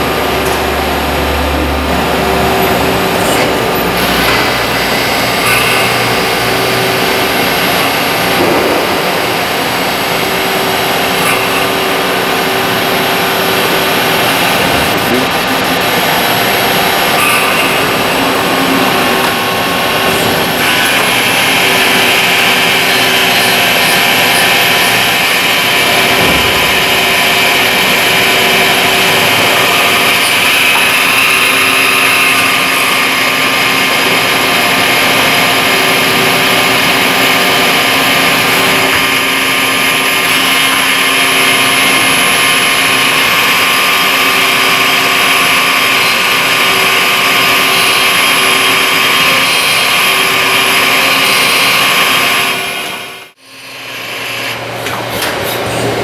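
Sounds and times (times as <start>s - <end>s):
lathe machining metal: 0.0s - 56.0s.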